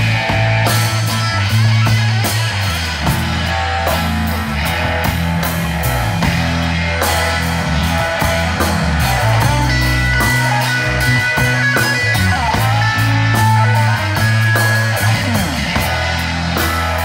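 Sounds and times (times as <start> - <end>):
bass line: 0.0 - 17.0
drum kit: 0.0 - 17.0
electric guitar: 0.0 - 17.0.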